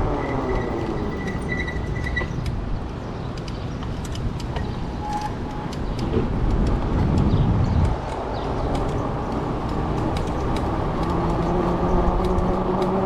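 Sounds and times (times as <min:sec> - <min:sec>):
bike road noise: 0:00.0 - 0:13.0
wind rushing over microphone: 0:00.0 - 0:13.0
light clicks and rattles: 0:02.0 - 0:13.0.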